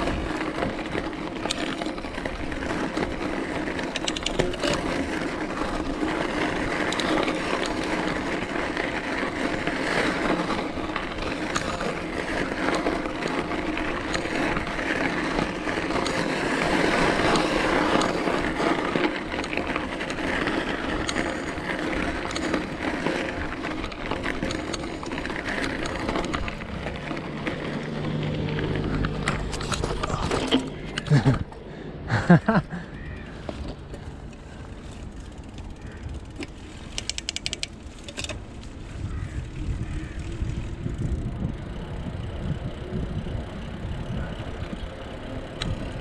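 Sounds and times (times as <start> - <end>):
small rattles and clicks: 0.0 - 31.6, 32.9 - 46.0
bicycle rolling noise: 0.0 - 46.0.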